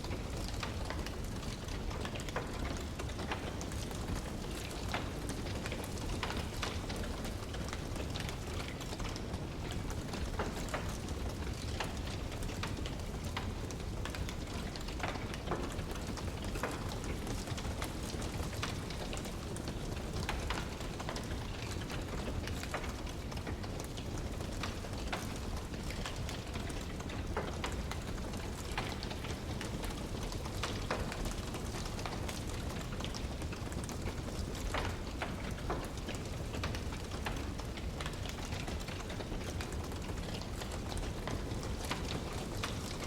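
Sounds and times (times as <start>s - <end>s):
wood fire crackling: 0.1s - 43.0s.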